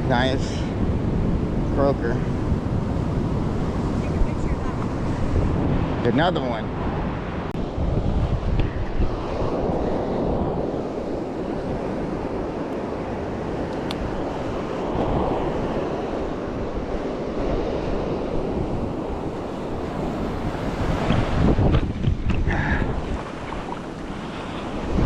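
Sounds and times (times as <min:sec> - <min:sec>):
ocean surf washing in: 0:00.0 - 0:25.0
wind rumbling on microphone: 0:00.0 - 0:25.0.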